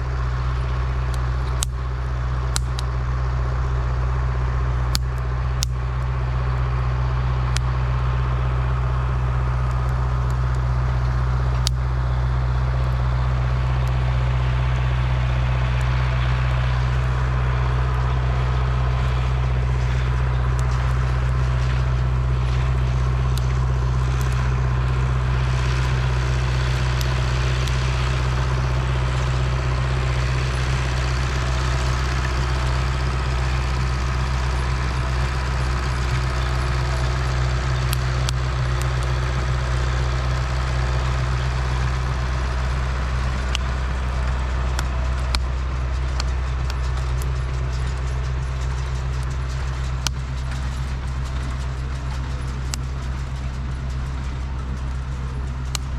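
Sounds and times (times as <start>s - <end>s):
engine running steadily: 0.0s - 55.9s.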